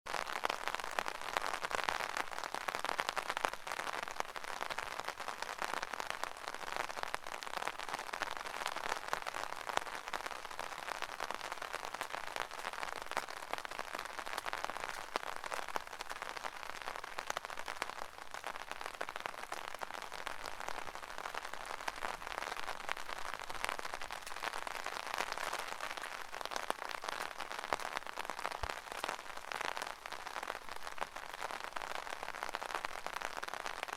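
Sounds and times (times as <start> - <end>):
rain on an umbrella: 0.1 - 33.9.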